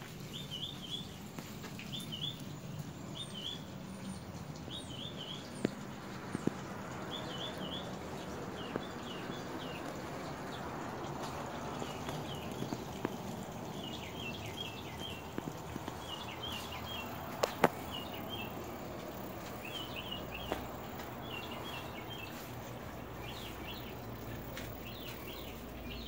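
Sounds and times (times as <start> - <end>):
small bird chirping: 0.2 - 26.0.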